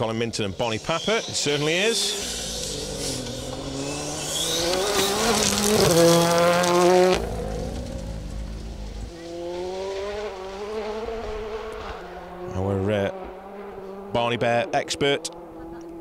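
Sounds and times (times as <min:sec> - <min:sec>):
rally car engine revving: 0:00.0 - 0:16.0
car sliding on gravel: 0:00.7 - 0:13.7.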